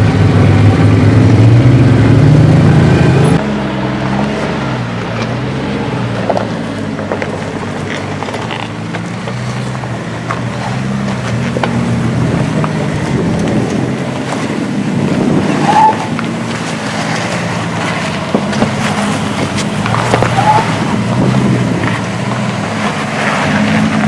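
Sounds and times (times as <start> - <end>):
vehicle engine at low revs: 0.0 - 24.0.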